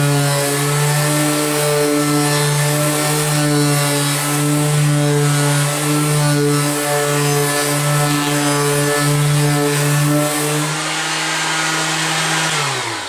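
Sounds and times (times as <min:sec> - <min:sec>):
orbital sander motor humming: 0:00.0 - 0:13.0.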